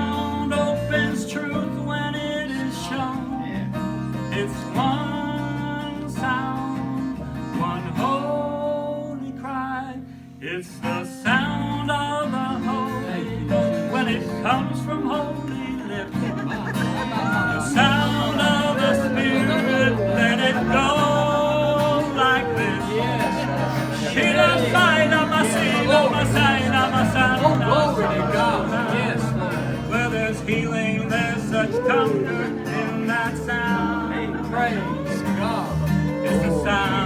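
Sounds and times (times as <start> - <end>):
acoustic guitar: 0.0 - 37.0.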